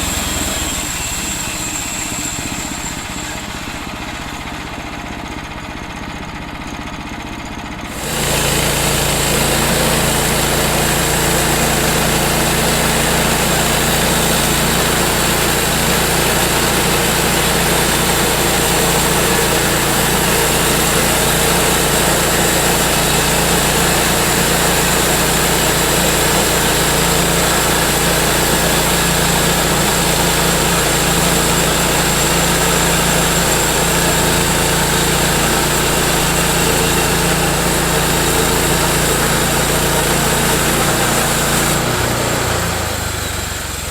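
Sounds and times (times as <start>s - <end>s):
sawmill gas engine running: 0.0s - 43.9s.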